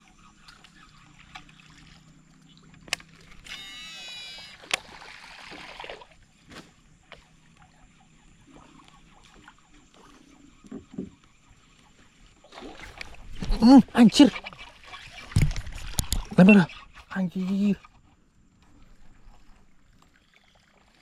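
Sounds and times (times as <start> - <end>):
fishing reel spool whirring: 0.0 - 21.0
reel and line noise: 0.0 - 21.0.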